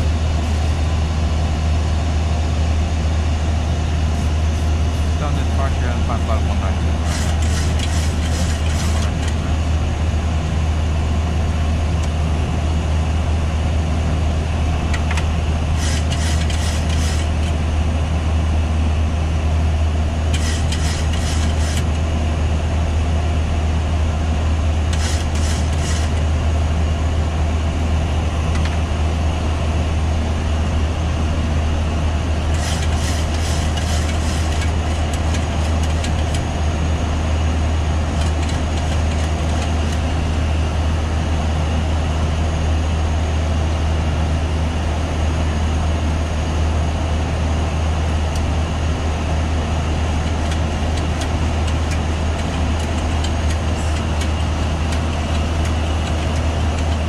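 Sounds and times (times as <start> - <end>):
airflow and engine drone: 0.0 - 57.0.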